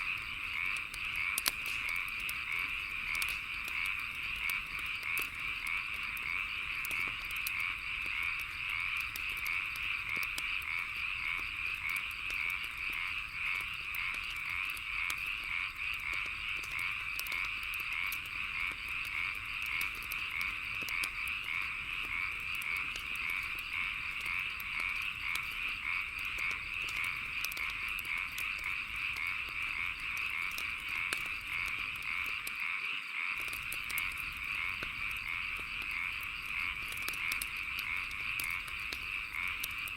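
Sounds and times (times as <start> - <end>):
frogs croaking: 0.0 - 39.9
insects chirping: 0.0 - 39.9
wood fire crackling: 0.0 - 39.9.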